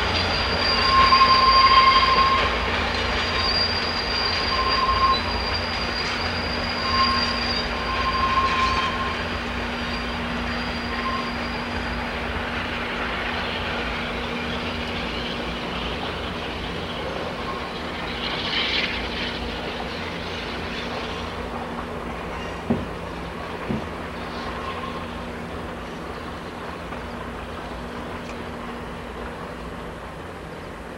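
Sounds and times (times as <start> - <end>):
high wheel squeals: 0.0 - 29.5
train cars rumbling on rails: 0.0 - 30.9.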